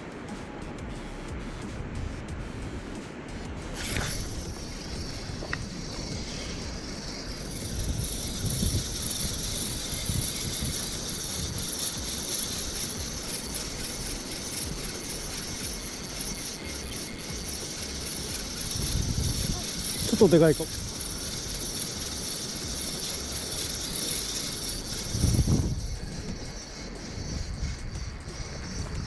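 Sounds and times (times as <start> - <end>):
strong wind buffeting microphone: 1.8 - 14.8, 17.5 - 22.4, 23.1 - 29.0.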